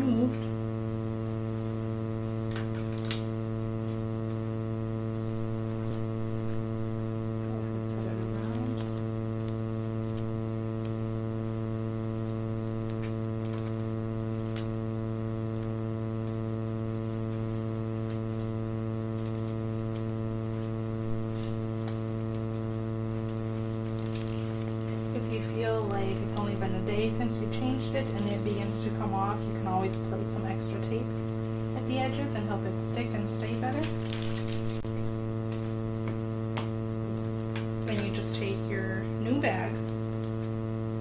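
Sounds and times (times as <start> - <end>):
electrical mains hum: 0.0 - 41.0.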